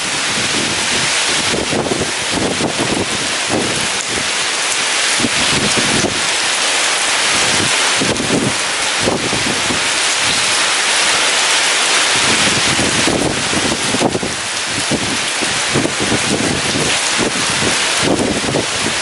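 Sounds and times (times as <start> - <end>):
gusting wind: 0.0 - 19.0
heavy rain pouring: 0.0 - 19.0.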